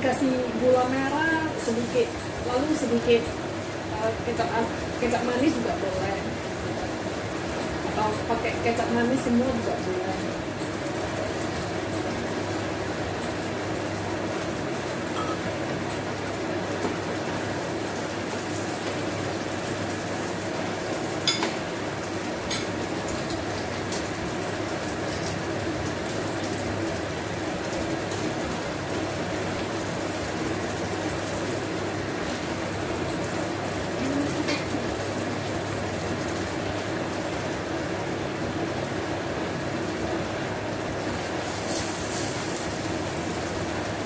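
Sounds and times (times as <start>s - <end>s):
sauce simmering in a pan: 0.1s - 44.0s.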